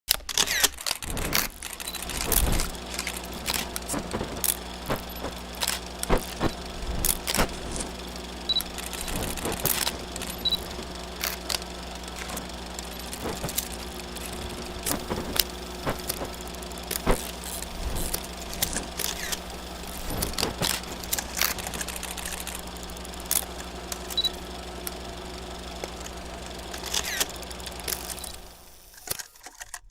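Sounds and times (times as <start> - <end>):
crackles clicks and pops: 0.1 - 25.0
film projector motor hum: 0.1 - 29.5.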